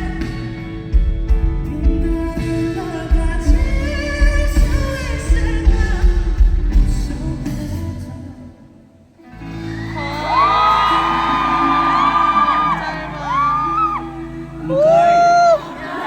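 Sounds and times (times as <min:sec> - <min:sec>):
live pop-rock band: 0:00.0 - 0:16.0
person singing: 0:00.0 - 0:16.0.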